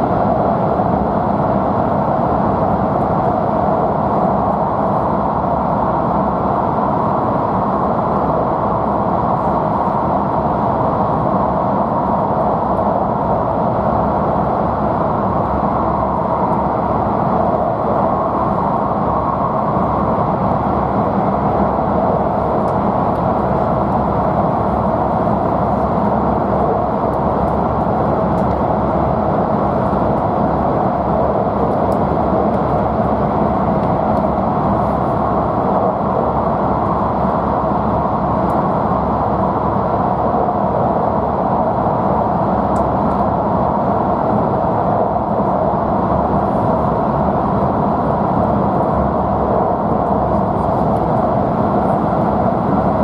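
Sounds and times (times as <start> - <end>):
train running in a tunnel: 0.0 - 53.0.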